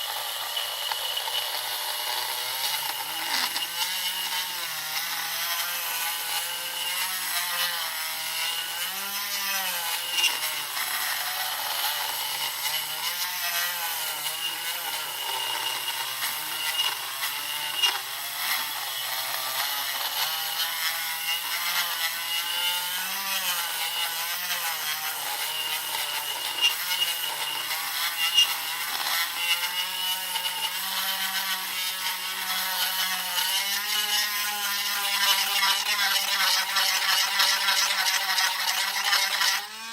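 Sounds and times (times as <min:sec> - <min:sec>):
rotary tool grinding with high whine: 0:00.0 - 0:39.9.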